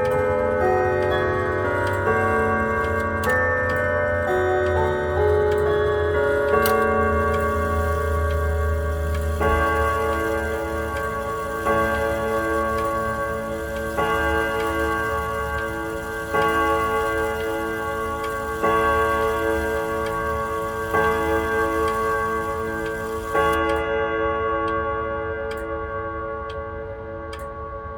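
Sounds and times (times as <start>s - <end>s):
clock ticking: 0.0s - 23.9s
grandfather clock striking chimes: 0.0s - 27.9s.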